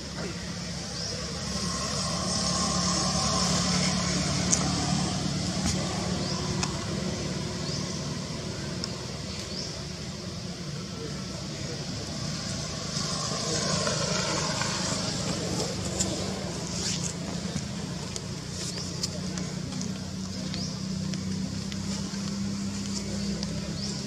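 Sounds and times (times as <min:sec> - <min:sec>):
vehicle engine passing: 0:00.0 - 0:24.0.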